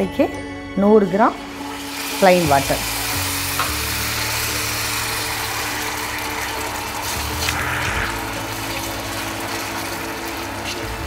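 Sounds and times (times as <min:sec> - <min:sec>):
syrup sizzling and bubbling in pan: 0:01.4 - 0:11.0.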